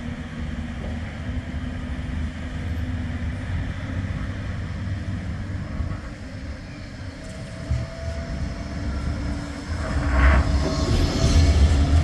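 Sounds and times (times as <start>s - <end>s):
tram low rumble: 0.0s - 12.0s
tram whine: 0.0s - 12.0s.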